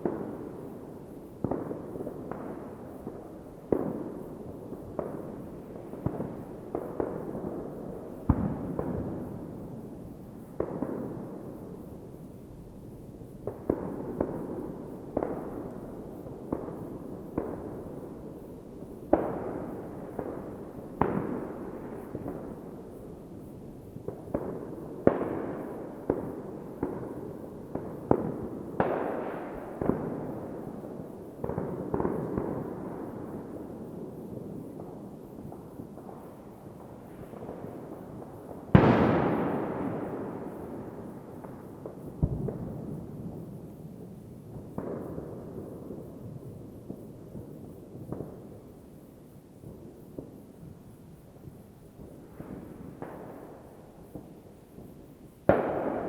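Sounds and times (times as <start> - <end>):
close fireworks bangs with echo: 0.0 - 12.3, 13.0 - 56.0
distant fireworks rumble: 0.0 - 56.0.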